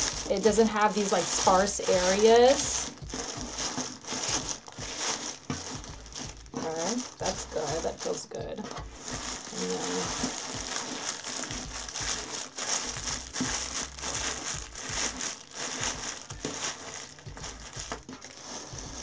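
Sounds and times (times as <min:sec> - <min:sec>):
cellophane wrappers crinkling: 0:00.0 - 0:19.0.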